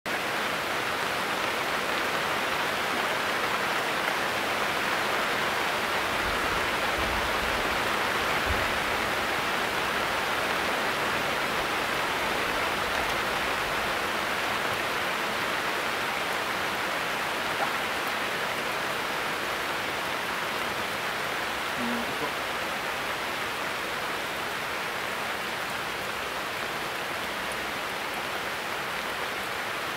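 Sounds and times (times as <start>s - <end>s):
steady rain on palm trees: 0.1s - 29.9s.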